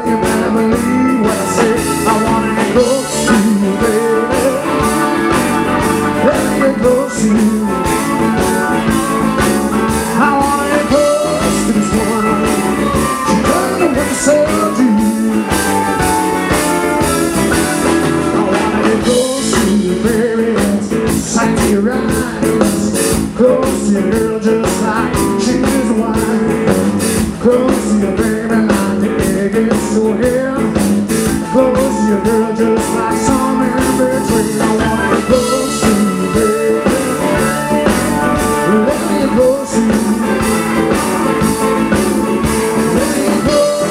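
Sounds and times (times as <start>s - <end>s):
rock band playing: 0.0s - 43.9s.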